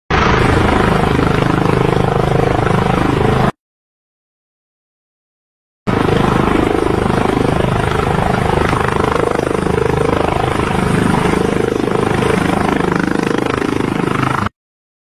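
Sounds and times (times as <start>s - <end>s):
helicopter rotor blades chopping: 0.1s - 3.6s, 5.9s - 14.5s.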